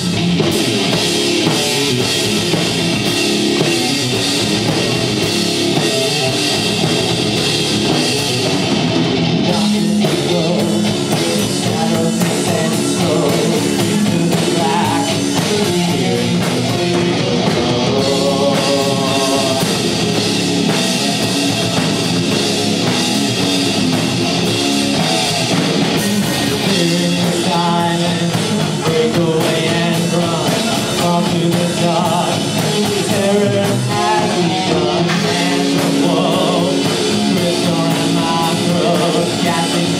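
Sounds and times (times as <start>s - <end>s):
sung lead vocal: 0.0s - 8.6s, 9.2s - 23.2s, 24.4s - 39.9s
live rock band playing: 0.0s - 39.9s.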